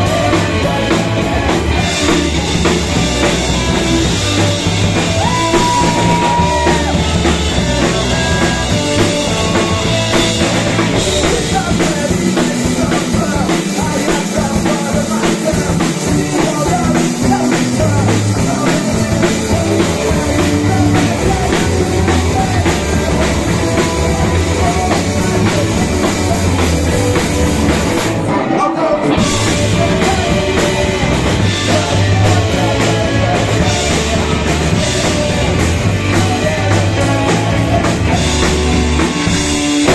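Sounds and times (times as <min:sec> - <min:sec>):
lead singer singing: 0:00.0 - 0:39.9
punk rock band playing live: 0:00.0 - 0:39.9.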